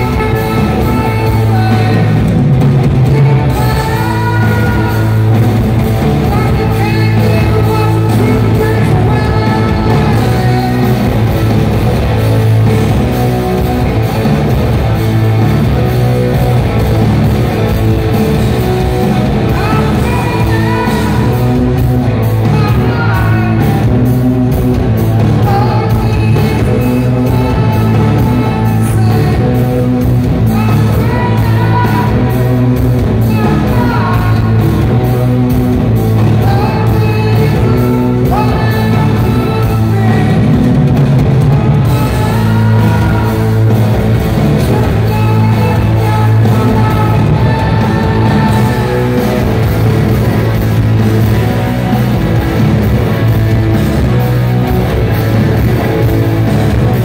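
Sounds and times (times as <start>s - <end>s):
man singing lead vocal: 0.0s - 14.2s, 18.1s - 50.1s
bass guitar: 0.0s - 57.0s
distorted electric guitars: 0.0s - 57.0s
drums: 0.0s - 57.0s.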